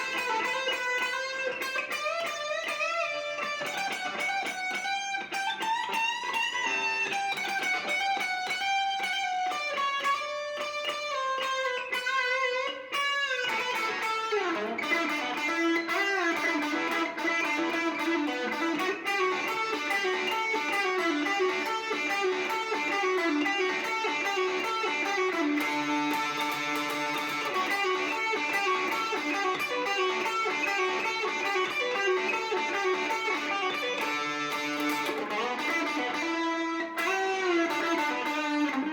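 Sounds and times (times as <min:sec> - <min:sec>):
electric guitar rock riffing: 0:00.0 - 0:38.9.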